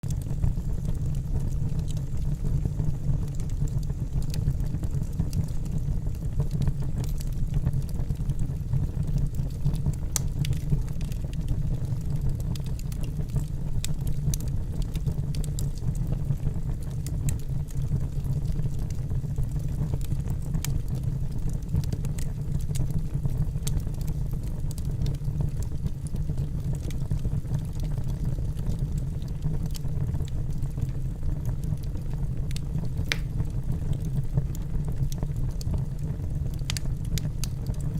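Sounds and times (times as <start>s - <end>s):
fire low rumble: 0.0s - 37.9s
logs crackling and popping: 0.0s - 37.9s.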